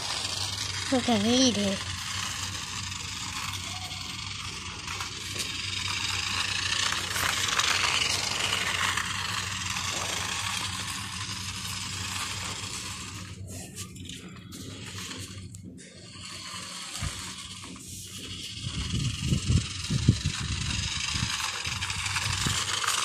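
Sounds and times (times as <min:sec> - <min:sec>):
toy car motor whirring: 0:00.0 - 0:23.0
wheels rattling on concrete: 0:00.0 - 0:23.0.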